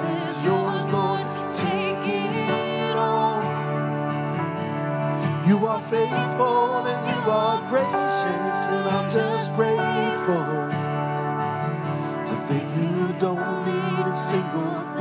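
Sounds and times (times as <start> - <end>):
people singing into microphones: 0.0 - 3.9, 5.3 - 10.8, 12.2 - 15.0
keyboard accompaniment: 0.0 - 15.0.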